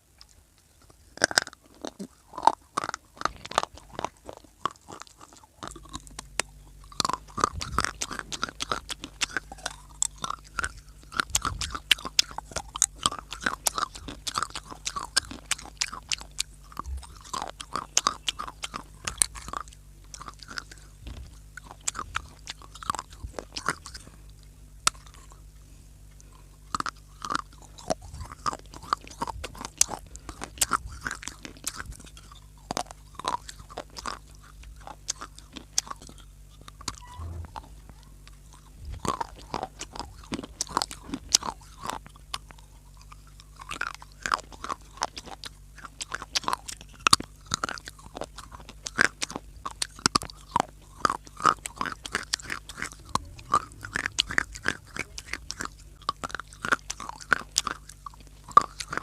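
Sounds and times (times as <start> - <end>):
crunchy chewing of dry clay: 0.0 - 59.0
steady low hum: 0.0 - 59.0.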